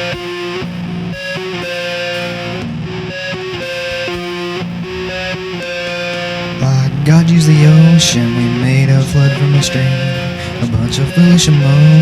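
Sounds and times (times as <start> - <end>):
electric guitar playing: 0.0 - 12.0.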